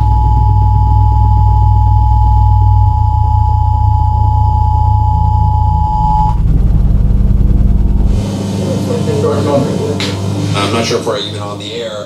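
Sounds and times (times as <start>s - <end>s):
deep subwoofer bass rumble: 0.0s - 11.0s
steady high tone: 0.0s - 12.0s.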